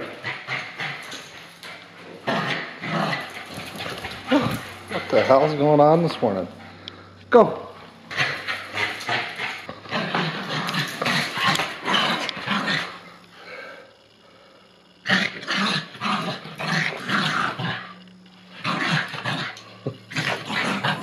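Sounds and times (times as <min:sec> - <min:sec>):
dogs barking and growling: 0:00.0 - 0:05.8, 0:07.6 - 0:13.2, 0:15.0 - 0:21.0.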